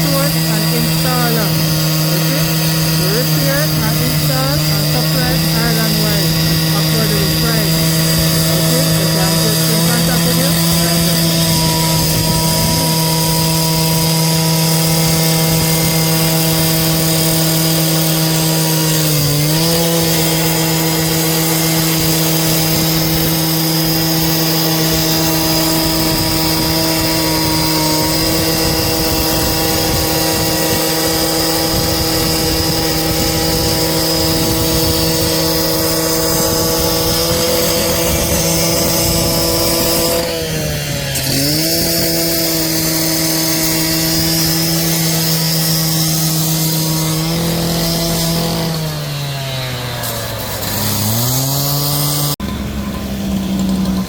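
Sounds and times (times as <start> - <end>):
power saw engine running: 0.0 - 54.0.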